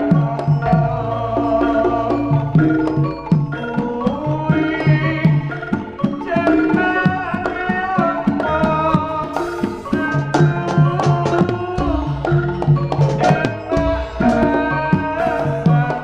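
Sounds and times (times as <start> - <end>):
hand drums playing quick rhythm: 0.0 - 16.0
ringing metallophone tones: 0.0 - 16.0.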